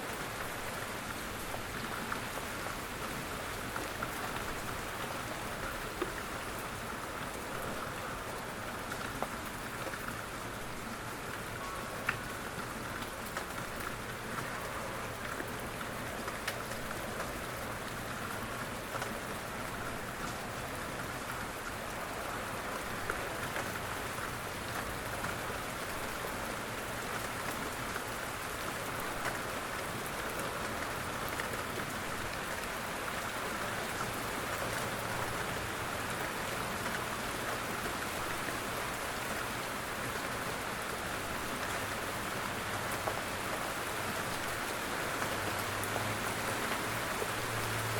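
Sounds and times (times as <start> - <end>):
raindrops pattering on a surface: 0.0 - 47.9
steady rain: 0.0 - 47.9.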